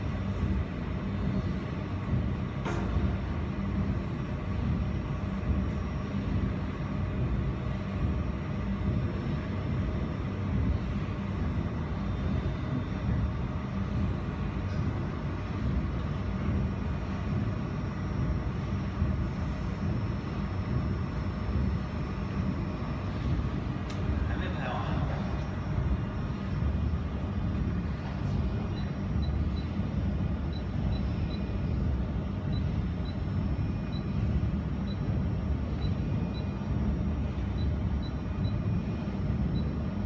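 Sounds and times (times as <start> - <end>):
chiller fan running: 0.0 - 40.0
welding machine hum: 0.0 - 40.0.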